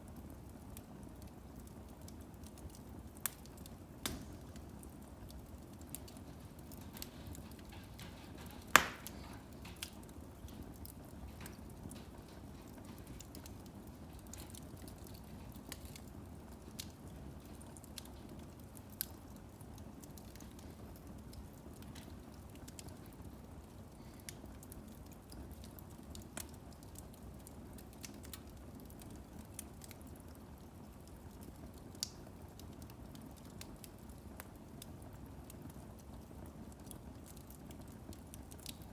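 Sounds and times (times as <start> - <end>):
fire burning: 0.0 - 38.9
firewood crackling and popping: 0.0 - 38.9.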